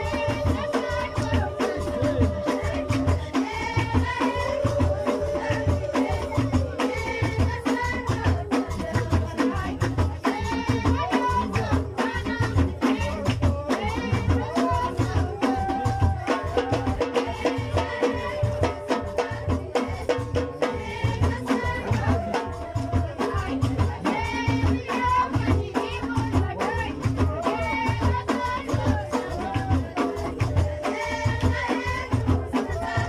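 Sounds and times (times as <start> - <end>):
drums beating: 0.0 - 33.0
people singing: 0.0 - 33.0.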